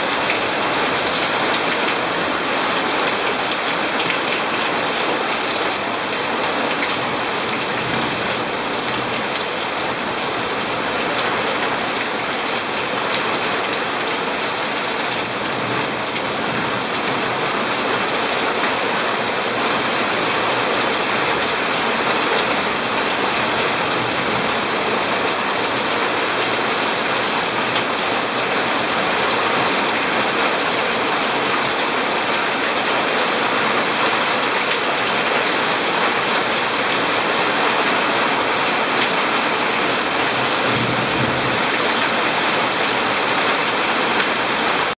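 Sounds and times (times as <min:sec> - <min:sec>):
heavy rain on plants and path: 0:00.0 - 0:45.0.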